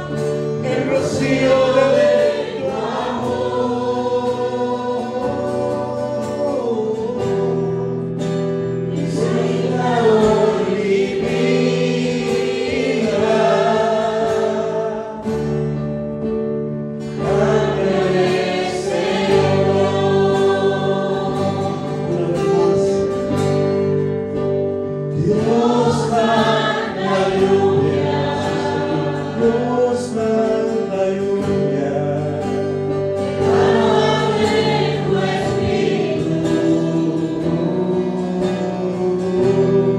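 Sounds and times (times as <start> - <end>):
choir singing worship song: 0.0 - 16.3, 16.9 - 39.9
instrumental accompaniment: 0.0 - 39.9.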